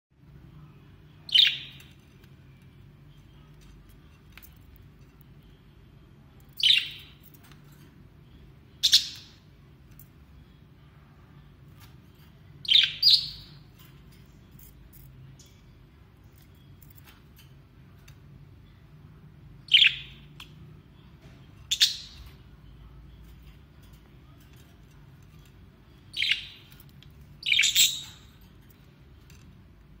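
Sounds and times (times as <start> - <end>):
faint background chirps: 0.2 - 30.0.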